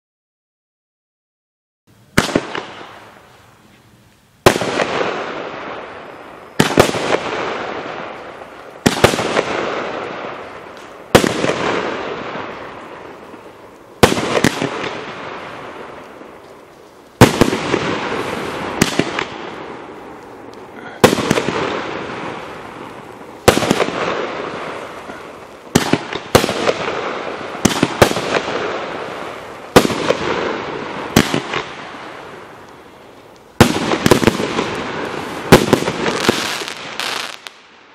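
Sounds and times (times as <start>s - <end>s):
fireworks bangs with rushing tails: 2.1s - 3.6s, 4.4s - 37.9s.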